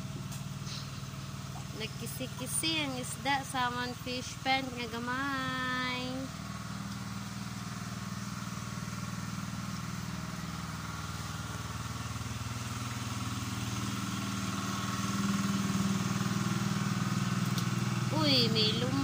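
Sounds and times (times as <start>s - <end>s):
small engine humming: 0.0s - 19.0s.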